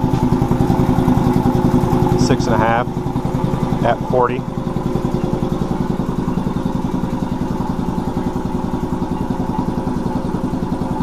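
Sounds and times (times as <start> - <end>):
air compressor chugging: 0.0 - 11.0.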